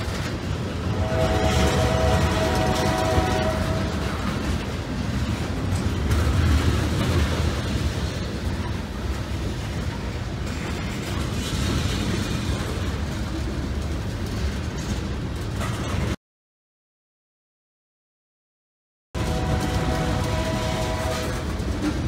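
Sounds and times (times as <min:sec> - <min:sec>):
train wheels rumbling on rails: 0:00.0 - 0:16.2, 0:19.2 - 0:22.0
wheels clicking over rail joints: 0:00.0 - 0:16.2, 0:19.2 - 0:22.0.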